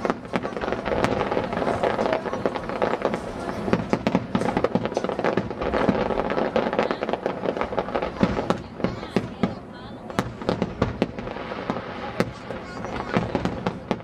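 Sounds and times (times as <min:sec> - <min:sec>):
firework crackles: 0:00.0 - 0:14.0
firework shells bursting: 0:00.0 - 0:14.0.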